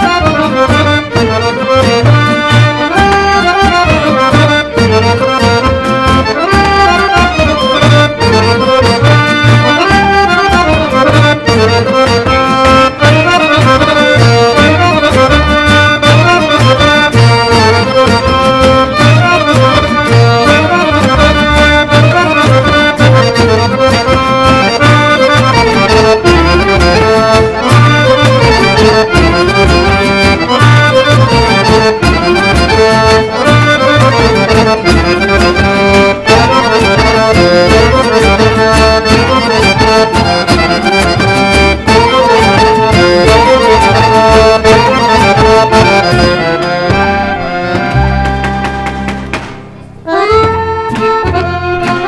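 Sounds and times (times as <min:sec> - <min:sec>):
accordion: 0:00.0 - 0:52.0
folk dance music: 0:00.0 - 0:52.0.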